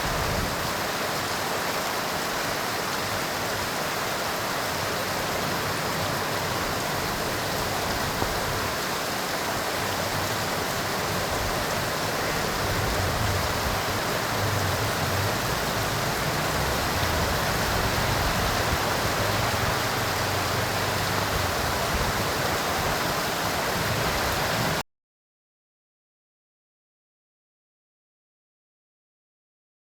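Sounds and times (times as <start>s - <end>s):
heavy rain hissing: 0.0s - 24.8s.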